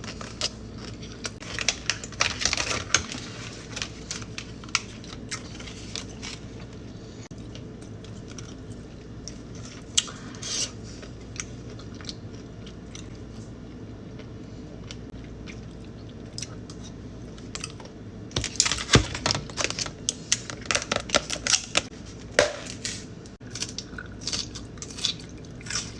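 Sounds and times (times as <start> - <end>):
crisp crunching and chewing: 0.0 - 22.0, 23.4 - 25.9.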